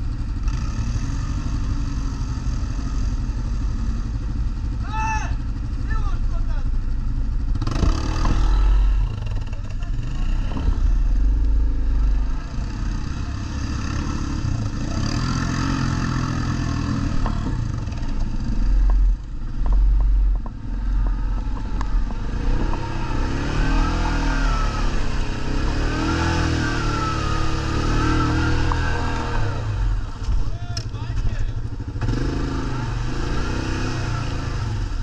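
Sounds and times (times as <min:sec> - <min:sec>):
atv engines revving: 0:00.0 - 0:35.0.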